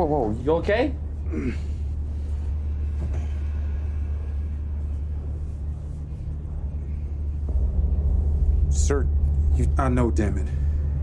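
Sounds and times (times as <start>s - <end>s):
low rumbling machinery hum: 0.0s - 11.0s.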